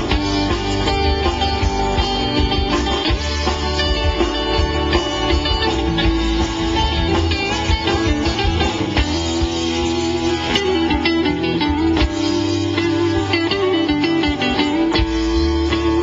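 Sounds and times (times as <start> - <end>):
electric guitar lead: 0.0 - 16.0
rock band playing: 0.0 - 16.0.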